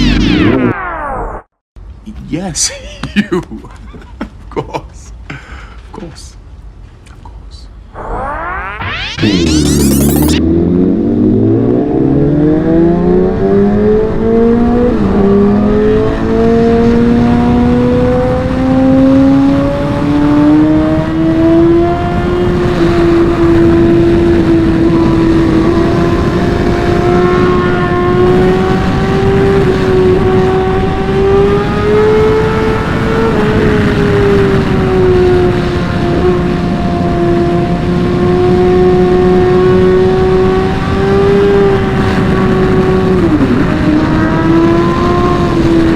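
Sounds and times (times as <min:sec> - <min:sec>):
motorcycle engine accelerating: 0:00.0 - 0:01.5, 0:07.9 - 0:45.9.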